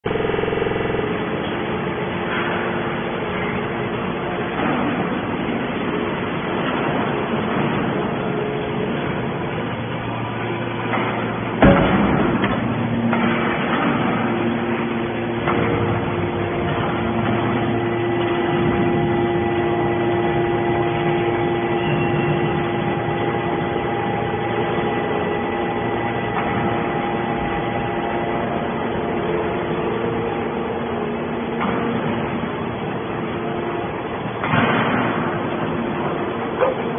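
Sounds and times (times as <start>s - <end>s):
can baler mechanical hum: 0.0s - 36.9s.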